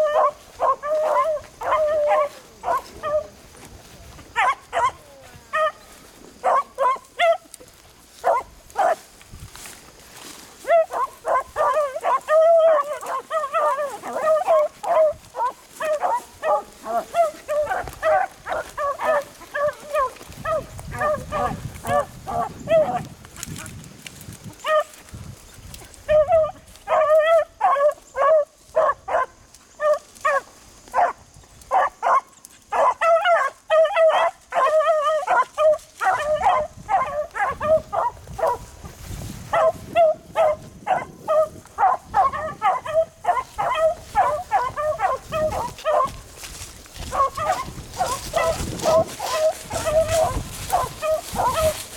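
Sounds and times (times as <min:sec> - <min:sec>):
beagles baying: 0:00.0 - 0:03.4, 0:04.3 - 0:09.0, 0:10.6 - 0:23.1, 0:26.0 - 0:38.6, 0:39.5 - 0:51.9.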